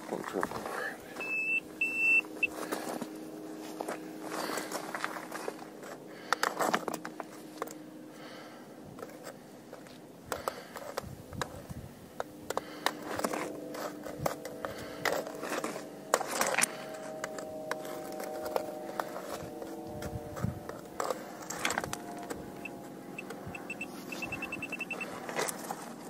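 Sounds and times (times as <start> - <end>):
probe scraping among pebbles: 0.0 - 7.7, 9.0 - 26.0.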